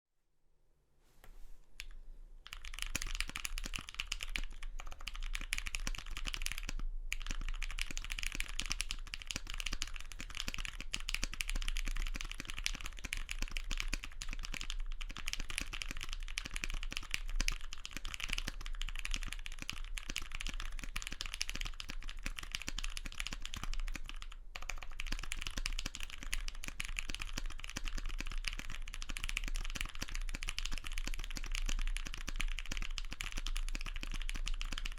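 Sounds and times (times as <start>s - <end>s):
fast mechanical keyboard typing: 2.5s - 34.9s.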